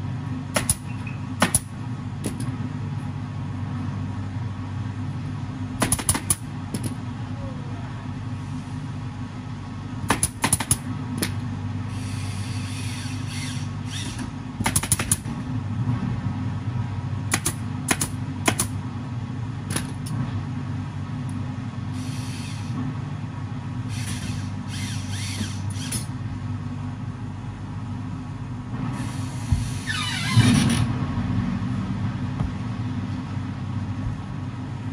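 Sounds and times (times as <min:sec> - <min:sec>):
low machinery hum: 0:00.0 - 0:34.9.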